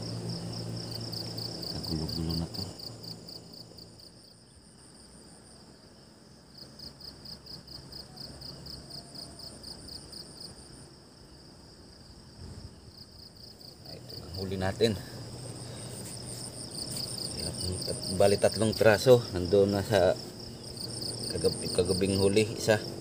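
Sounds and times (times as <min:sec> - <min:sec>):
insects chirping in fast pulses: 0:00.0 - 0:23.0.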